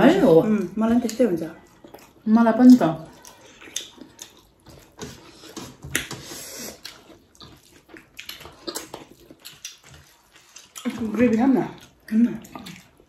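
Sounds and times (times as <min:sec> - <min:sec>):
wet chewing and lip smacks: 0:00.5 - 0:13.0.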